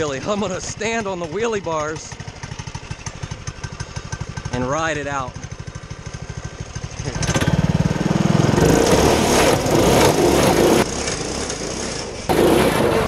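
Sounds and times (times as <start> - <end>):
small engine running hard: 0.0 - 13.0.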